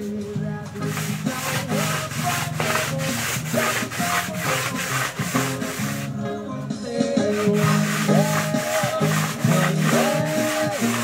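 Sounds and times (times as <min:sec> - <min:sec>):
cloth scrubbing concrete floor: 0:00.0 - 0:06.2, 0:07.1 - 0:11.0.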